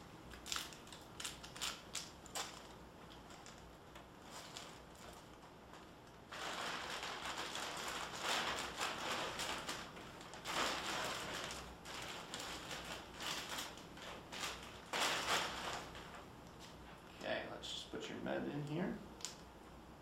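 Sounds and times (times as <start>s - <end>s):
plastic crinkling and rustling: 0.3s - 17.0s.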